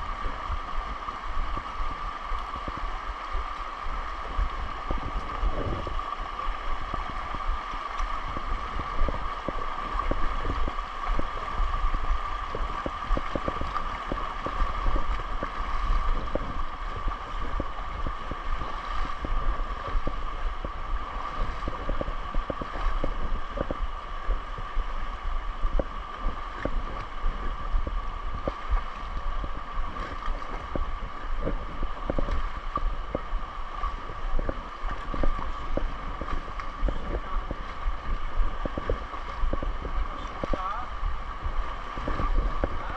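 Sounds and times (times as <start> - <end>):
river water rushing over rocks: 0.0 - 42.9
wind rumble on microphone: 0.0 - 42.9.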